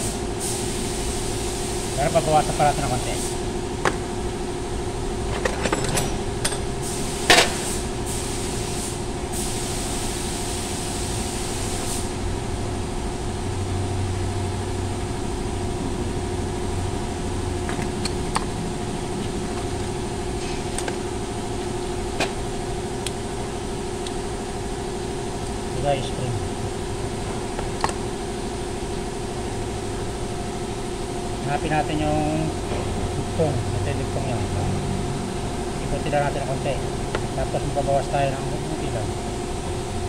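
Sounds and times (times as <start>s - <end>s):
mechanical hum: 0.0s - 40.0s.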